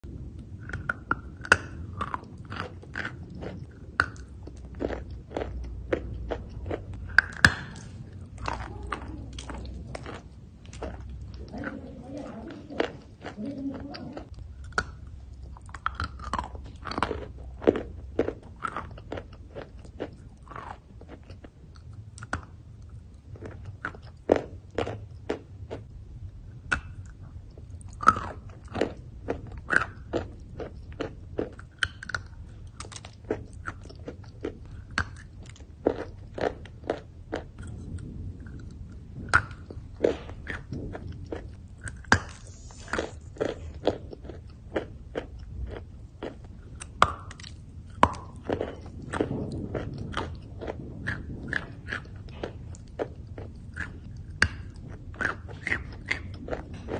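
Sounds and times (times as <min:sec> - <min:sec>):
chalk crunching while chewed: 0:00.4 - 0:25.9, 0:26.6 - 0:56.9.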